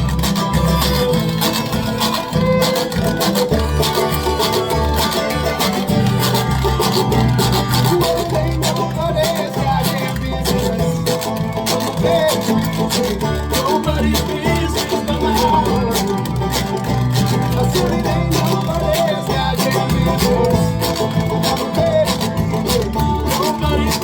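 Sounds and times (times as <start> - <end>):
banjo picking: 0.0 - 24.0
bass line: 0.0 - 24.0
spoons clicking rhythm: 0.0 - 24.0.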